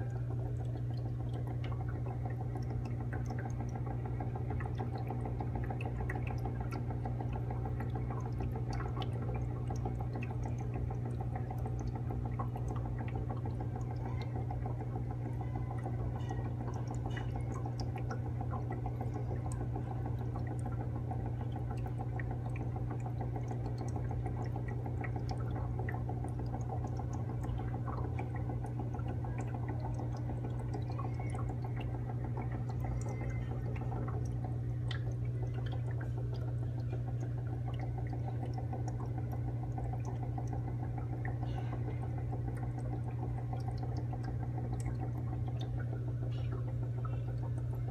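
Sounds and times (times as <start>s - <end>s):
aquarium pump humming: 0.0s - 47.9s
water trickling and dripping: 0.0s - 47.9s.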